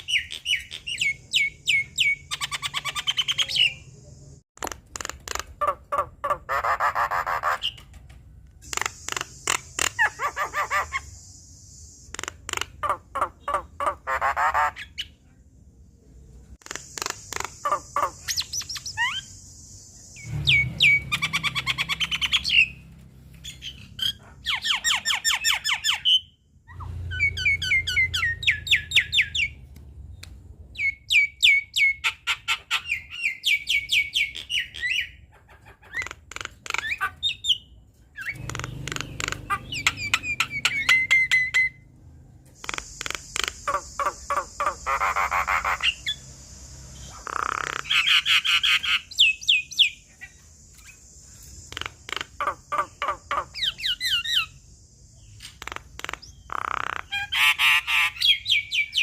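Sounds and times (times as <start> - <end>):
bird singing varied song: 0.0 - 7.9, 16.0 - 59.0.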